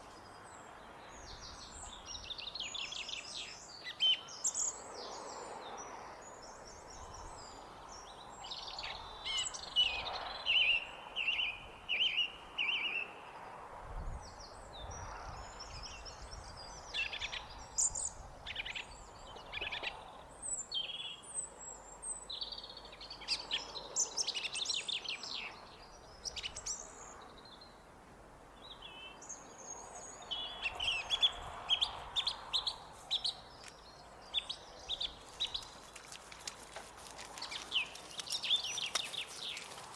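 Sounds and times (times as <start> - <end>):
song thrush singing: 0.0 - 5.4, 6.2 - 13.3, 14.2 - 39.9.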